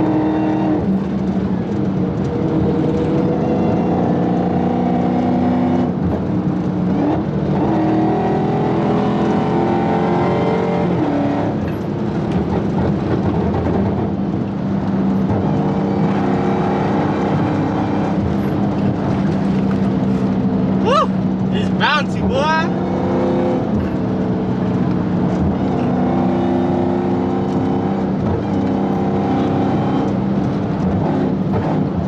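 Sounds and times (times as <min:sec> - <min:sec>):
car engine revving at speed: 0:00.0 - 0:32.0.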